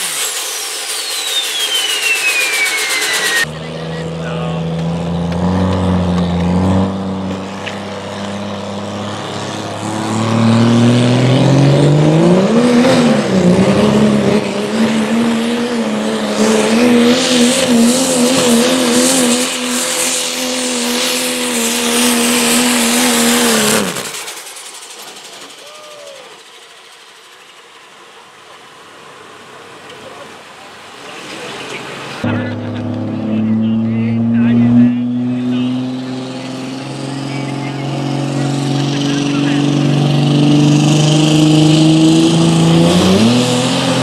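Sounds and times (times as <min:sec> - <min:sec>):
diesel truck engine under load: 0:00.0 - 0:44.0.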